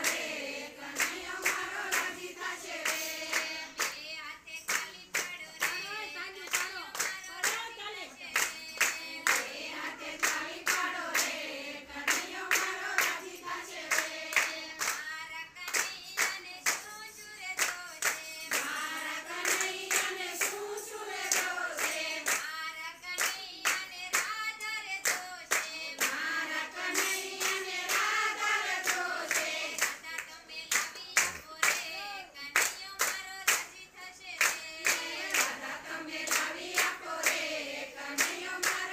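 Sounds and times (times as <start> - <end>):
hands clapping steady beat: 0.0 - 38.9
women singing devotional song: 0.0 - 38.9.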